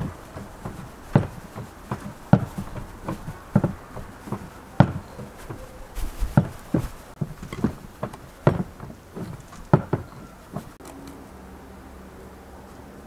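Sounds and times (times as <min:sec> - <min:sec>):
hands kneading dough: 0:00.0 - 0:10.8.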